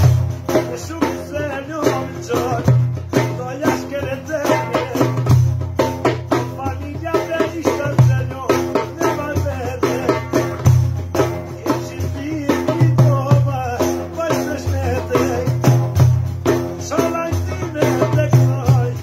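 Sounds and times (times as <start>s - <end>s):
frame drum strokes: 0.0s - 19.0s
man singing: 0.0s - 19.0s.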